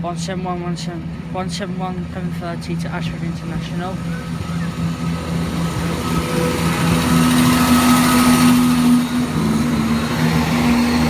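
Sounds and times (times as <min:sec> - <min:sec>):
diesel train running past: 0:00.0 - 0:11.0.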